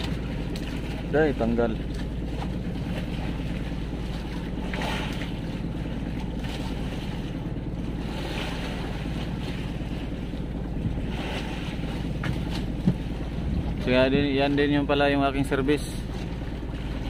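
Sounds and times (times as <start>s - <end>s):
boat engine humming: 0.0s - 17.0s
waves washing against hull: 0.0s - 17.0s.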